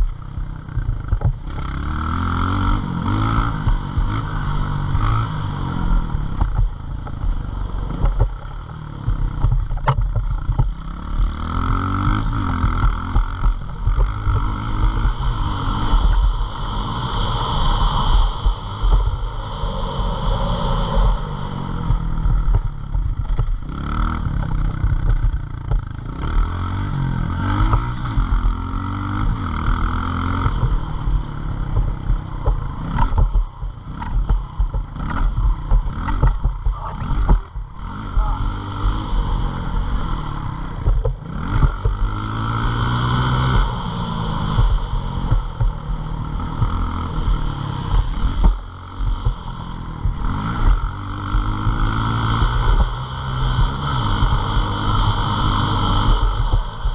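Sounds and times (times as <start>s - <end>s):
pit bike engine revving: 0.2s - 56.9s.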